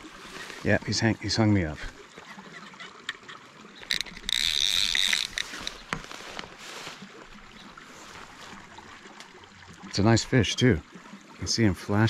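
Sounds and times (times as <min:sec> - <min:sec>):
water splashing in a creek: 0:00.0 - 0:12.0.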